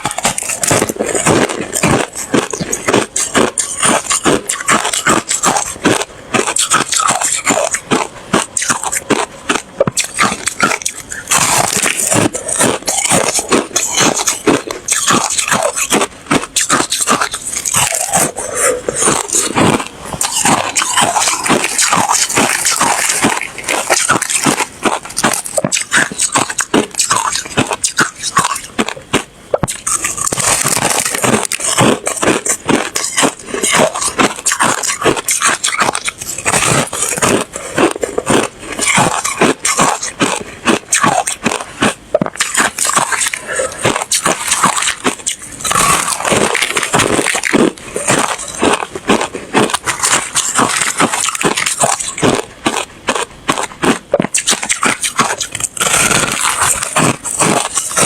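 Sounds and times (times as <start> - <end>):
person crunching ice: 0.0 - 58.0.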